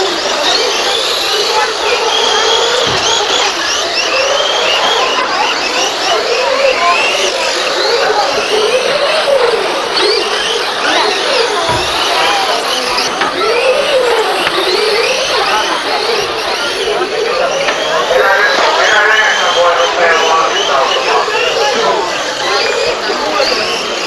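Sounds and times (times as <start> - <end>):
model car motors whining: 0.0 - 19.2, 19.8 - 24.0.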